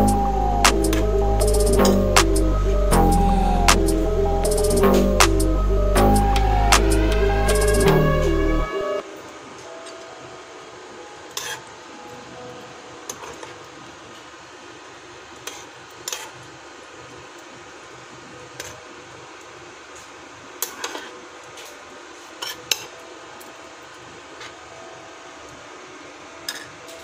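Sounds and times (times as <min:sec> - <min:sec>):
low hiss: 0:00.0 - 0:27.0.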